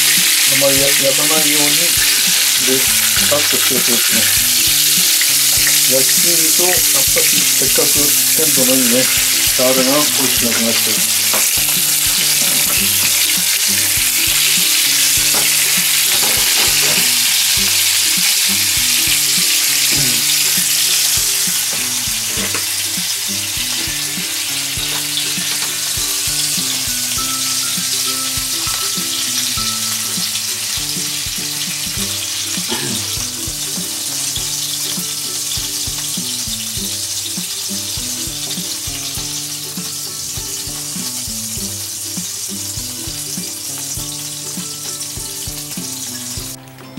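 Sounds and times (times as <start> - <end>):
fish sizzling in a frying pan: 0.0 - 46.6
light background music: 0.0 - 46.9.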